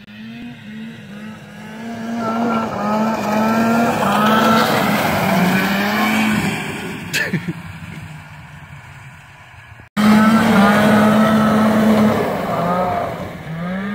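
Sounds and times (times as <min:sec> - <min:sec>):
snowmobile engine passing by: 0:00.0 - 0:08.2, 0:10.0 - 0:13.9.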